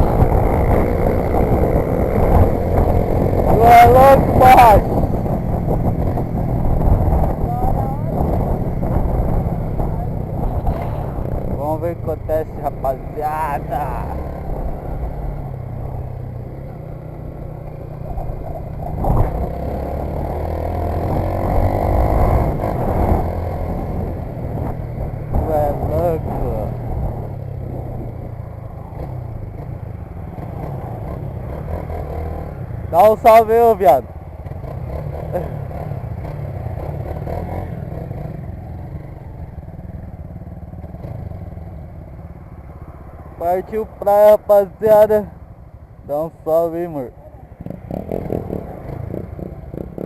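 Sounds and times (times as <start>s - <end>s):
motorcycle engine accelerating: 0.0s - 50.0s.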